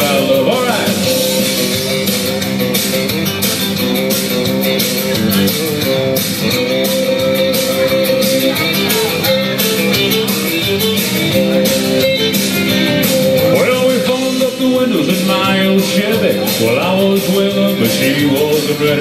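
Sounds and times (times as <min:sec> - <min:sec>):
country band instrumental: 0:00.0 - 0:19.0
lead guitar: 0:00.0 - 0:19.0.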